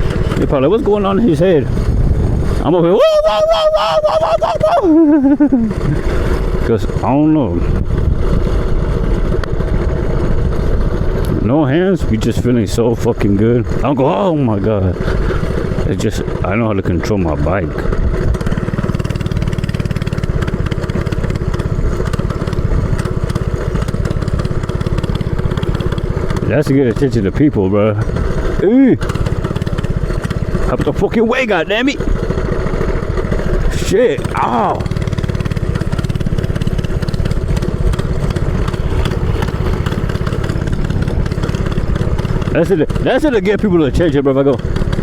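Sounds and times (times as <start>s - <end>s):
small engine puttering: 0.0s - 45.0s.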